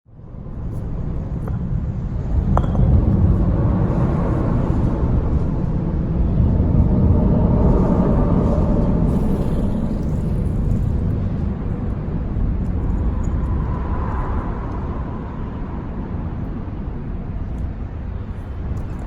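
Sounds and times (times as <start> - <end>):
steady low rumble: 0.1 - 19.0.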